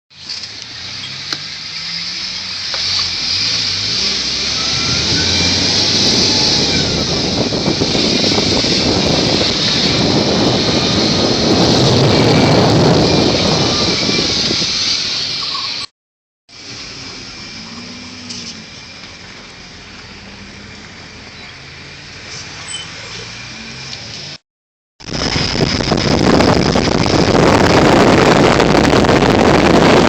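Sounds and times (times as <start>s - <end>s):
vehicle engine and tyre noise: 0.1s - 15.9s, 16.5s - 24.4s, 25.0s - 30.0s.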